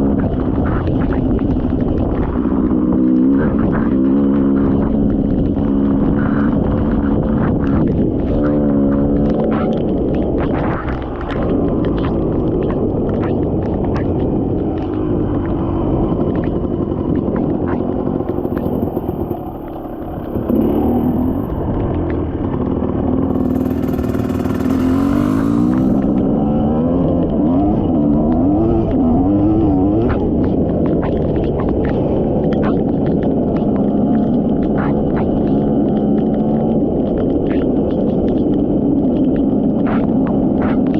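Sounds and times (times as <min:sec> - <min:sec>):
dirt bike engine revving: 0:00.0 - 0:13.0, 0:13.7 - 0:36.8
sharp clicks and clatter: 0:00.0 - 0:40.9.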